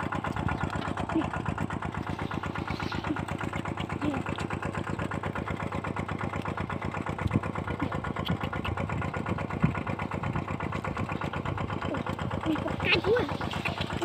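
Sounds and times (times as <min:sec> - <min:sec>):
engine-driven water pump running: 0:00.0 - 0:14.0.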